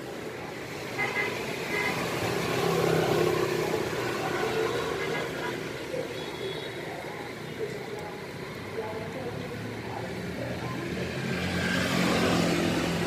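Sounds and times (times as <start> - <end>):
vehicle engine: 0.0 - 13.0.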